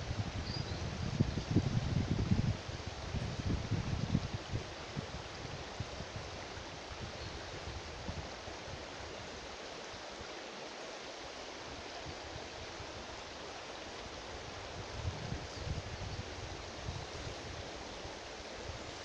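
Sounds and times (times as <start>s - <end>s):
river water rushing: 2.5s - 19.0s.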